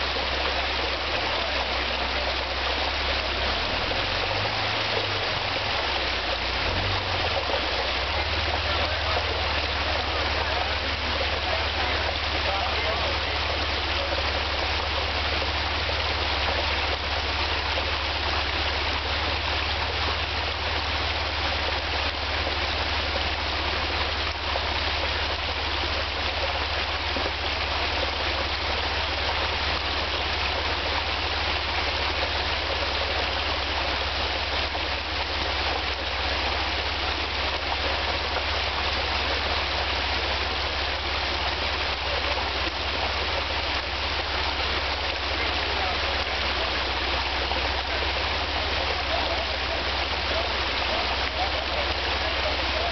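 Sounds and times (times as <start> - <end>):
creek running over rocks: 0.0 - 52.9
vehicle engine idling: 0.0 - 52.9.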